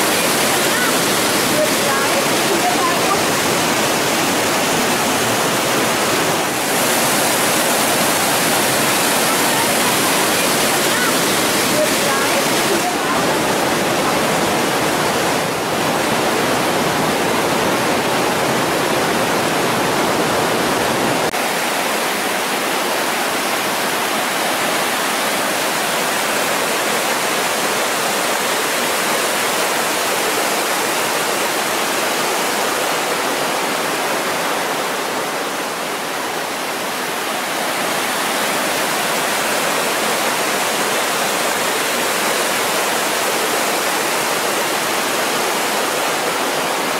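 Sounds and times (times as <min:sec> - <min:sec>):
whitewater rushing through gorge: 0:00.0 - 0:46.9.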